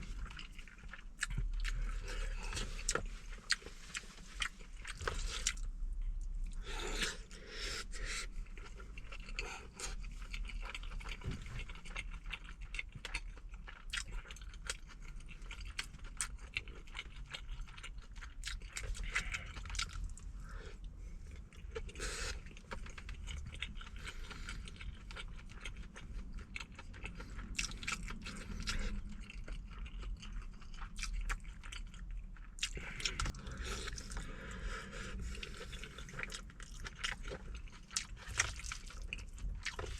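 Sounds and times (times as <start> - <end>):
steady low hum: 0.0 - 39.9
wet chewing: 0.0 - 39.9.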